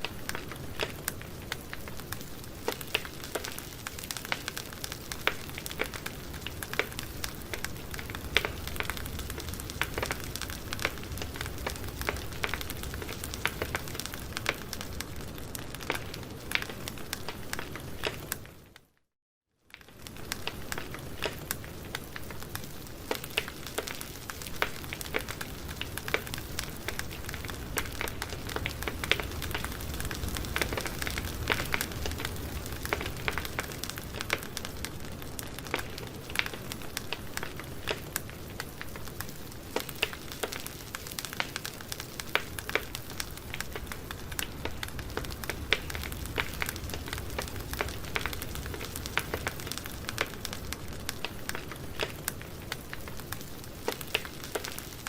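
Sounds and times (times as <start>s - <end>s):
steady fire hiss: 0.0s - 18.6s, 19.8s - 55.0s
campfire crackling and popping: 0.0s - 18.9s, 19.6s - 55.0s.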